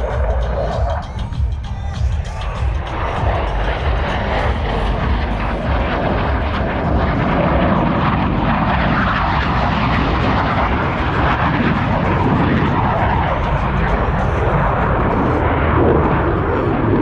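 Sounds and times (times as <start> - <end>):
jet aircraft rumble: 0.0 - 17.0.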